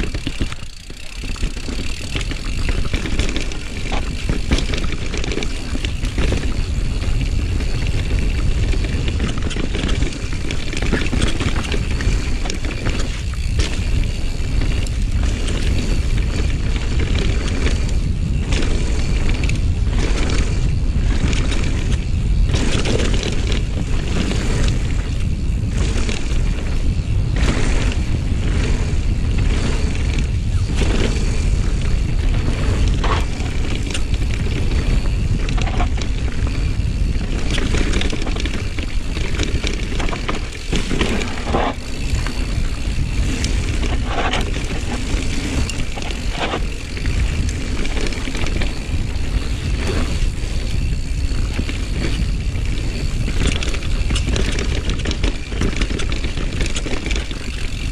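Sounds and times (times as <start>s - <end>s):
bike knocks and rattles: 0.0s - 57.9s
wind and rolling tyres rumble: 0.0s - 57.9s.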